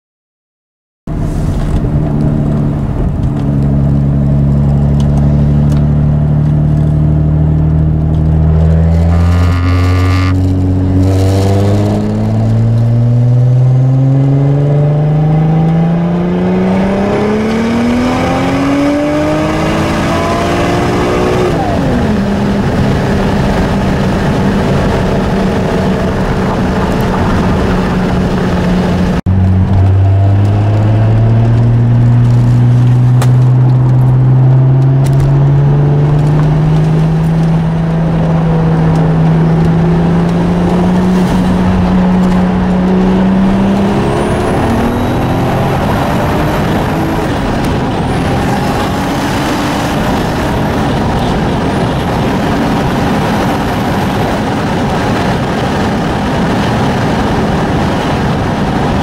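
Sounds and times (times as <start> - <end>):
car engine accelerating: 1.1 - 59.0
road noise: 1.1 - 59.0.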